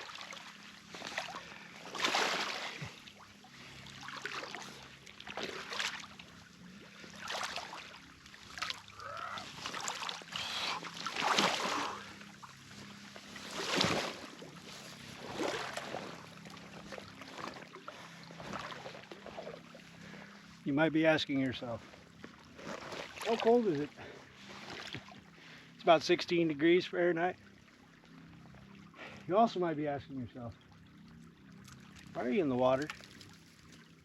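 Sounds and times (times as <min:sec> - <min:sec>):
person wading through water: 0:00.0 - 0:25.8, 0:27.3 - 0:29.3, 0:30.5 - 0:34.0.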